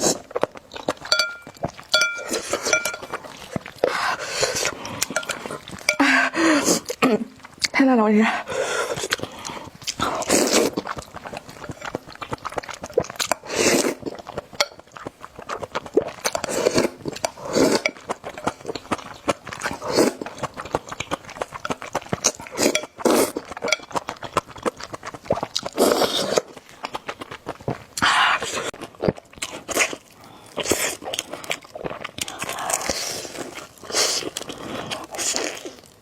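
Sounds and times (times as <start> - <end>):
noodle slurping: 0.0 - 7.6, 8.4 - 27.2, 29.5 - 35.8
wet chewing: 0.0 - 7.8, 8.4 - 36.0.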